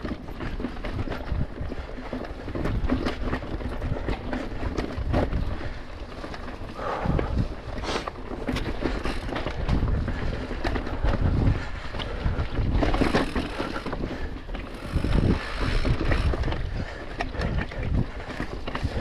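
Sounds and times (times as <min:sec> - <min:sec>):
bike knocking and rattling: 0:00.0 - 0:19.0
bike tyre rumble: 0:00.0 - 0:19.0
wind buffeting microphone: 0:00.0 - 0:19.0.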